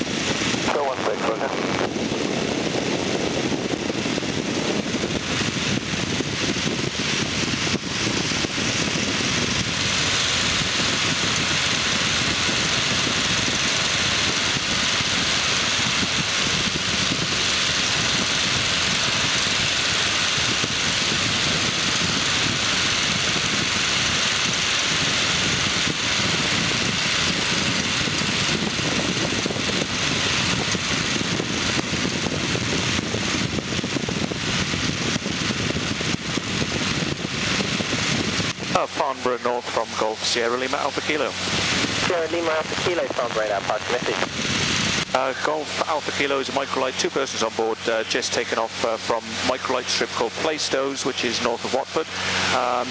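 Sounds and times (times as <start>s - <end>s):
aircraft engine and propeller: 0.0s - 52.9s
rushing wind: 0.0s - 52.9s.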